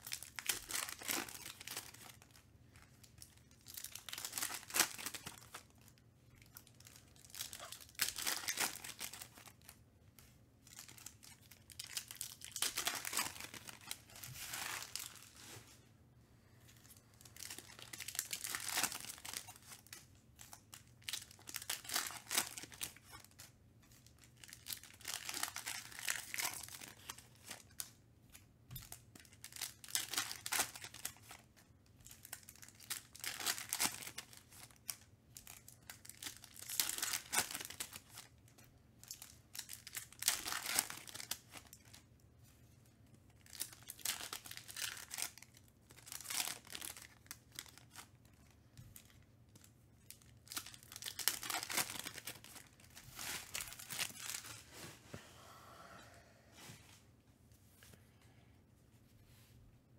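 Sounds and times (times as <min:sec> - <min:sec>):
foil wrappers crinkling and tearing: 0:00.0 - 0:02.5, 0:03.1 - 0:09.8, 0:10.6 - 0:15.6, 0:16.9 - 0:28.0, 0:28.7 - 0:42.1, 0:43.3 - 0:54.8.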